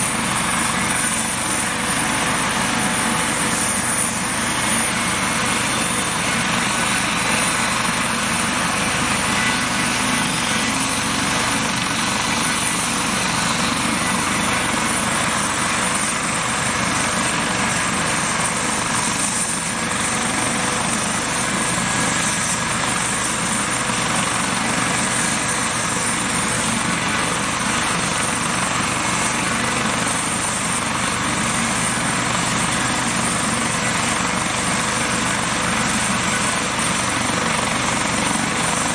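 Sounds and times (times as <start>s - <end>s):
helicopter rotor noise: 0.0s - 38.9s
helicopter turbine whine: 0.0s - 38.9s
high constant whistle: 0.0s - 38.9s.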